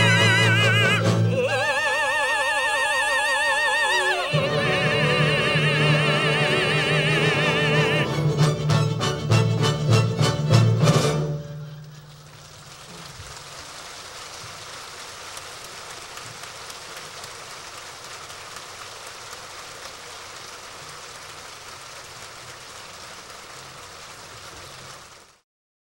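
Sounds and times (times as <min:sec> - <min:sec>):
audience applauding: 0:00.0 - 0:10.0, 0:11.9 - 0:25.4.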